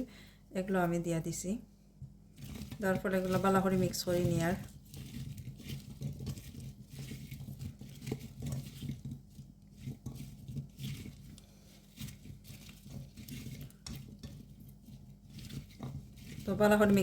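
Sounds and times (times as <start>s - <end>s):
vegetables squelching and rustling: 2.0s - 17.0s.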